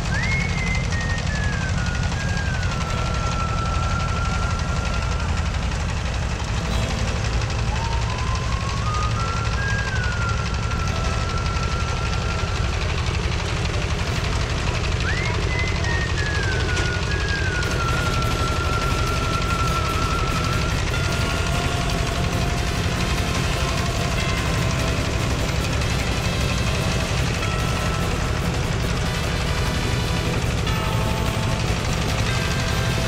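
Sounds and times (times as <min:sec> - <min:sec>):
thin high melody: 0:00.0 - 0:33.0
threshing machine engine rumbling: 0:00.0 - 0:33.0.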